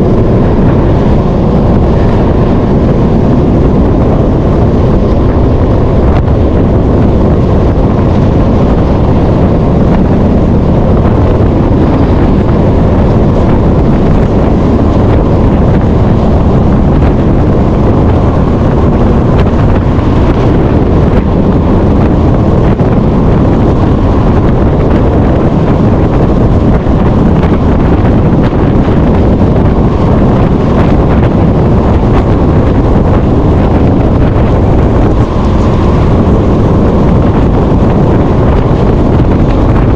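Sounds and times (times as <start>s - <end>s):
truck engine and road rumble: 0.0s - 39.9s
wind buffeting microphone: 0.0s - 39.9s.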